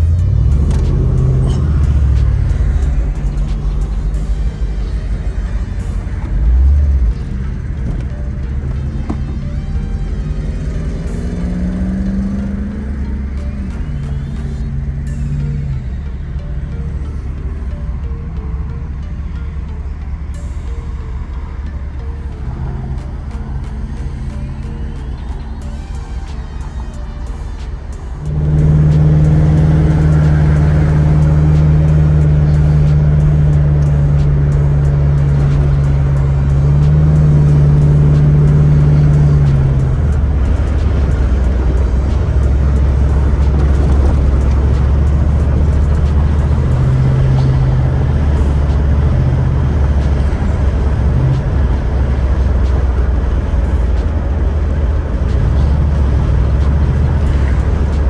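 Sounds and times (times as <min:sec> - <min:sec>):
car moving: 0:00.0 - 0:58.0
music with heavy bass: 0:00.0 - 0:58.0.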